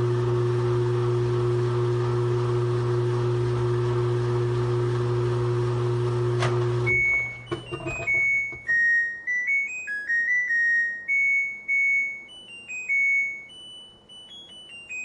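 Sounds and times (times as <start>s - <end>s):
washing machine buzzer tune: 0.0s - 15.0s.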